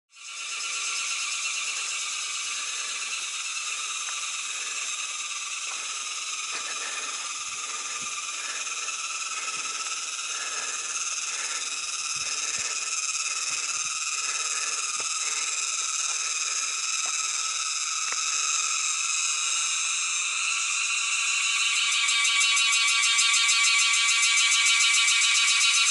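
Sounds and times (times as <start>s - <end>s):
insect chorus drone: 0.1s - 25.9s.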